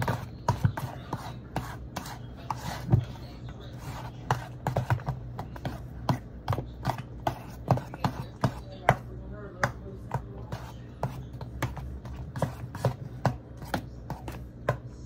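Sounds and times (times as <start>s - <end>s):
utensil clacking and scraping bowl: 0.0s - 15.0s.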